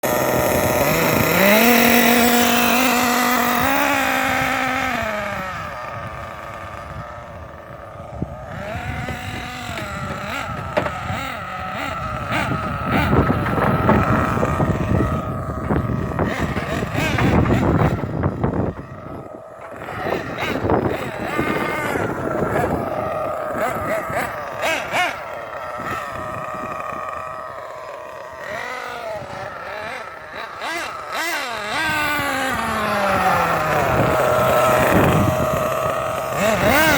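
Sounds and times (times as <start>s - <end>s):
toy truck motor revving: 0.0s - 36.9s
wind buffeting microphone: 0.0s - 36.9s.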